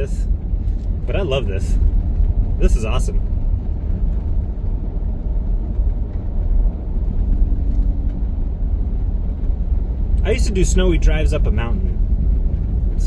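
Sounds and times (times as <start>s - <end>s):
car engine rumble: 0.0s - 13.0s
tyres on snowy road: 0.0s - 13.0s.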